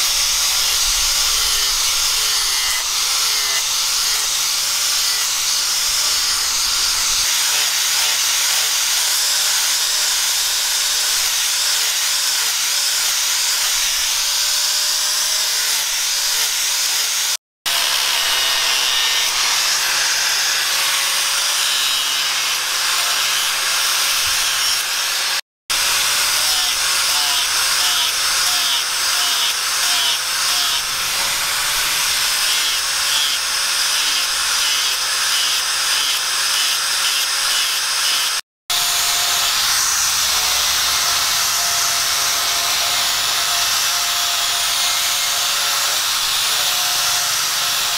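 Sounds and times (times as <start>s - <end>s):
angle grinder sanding: 0.0s - 47.9s.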